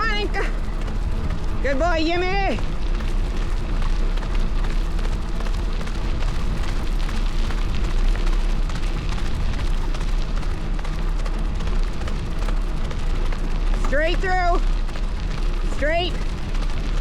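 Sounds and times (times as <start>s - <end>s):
bike tyre rolling on trail: 0.0s - 17.0s
wind rumble on microphone: 0.0s - 17.0s.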